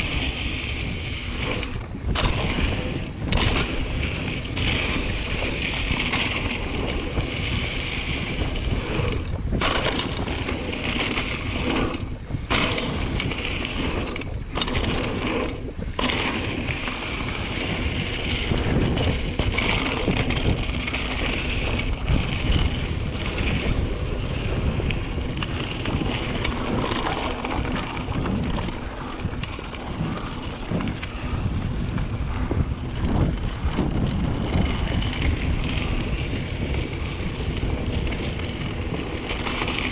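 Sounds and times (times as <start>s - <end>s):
bike tyres rumbling over dirt: 0.0s - 39.9s
wind rush on microphone: 0.0s - 39.9s.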